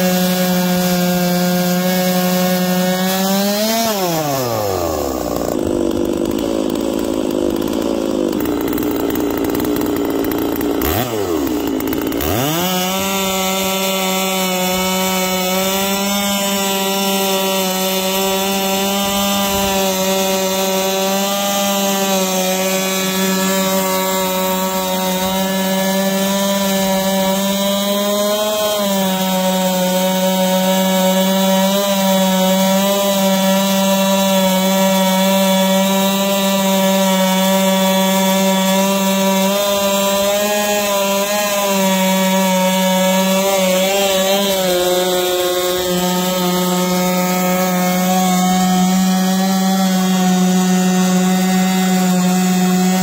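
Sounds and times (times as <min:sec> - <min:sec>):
chainsaw cutting through log: 0:00.0 - 0:53.0.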